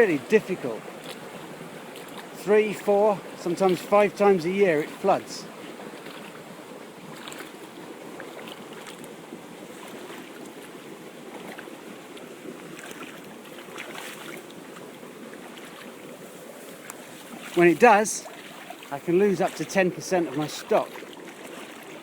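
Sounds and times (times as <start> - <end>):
floodwater rushing: 0.0 - 22.0
small water splashes: 0.0 - 22.0.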